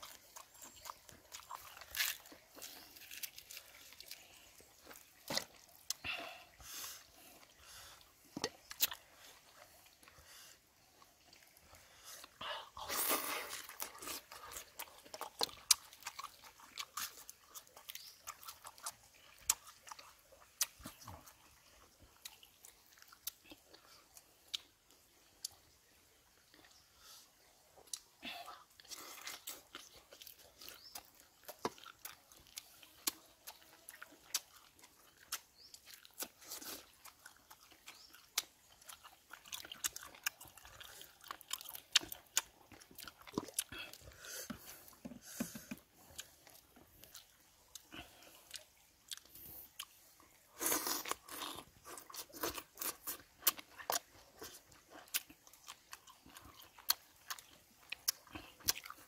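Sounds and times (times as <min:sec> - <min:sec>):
man chewing and biting: 0:00.0 - 0:06.0, 0:07.3 - 0:10.2, 0:11.0 - 0:24.8, 0:28.8 - 0:59.0.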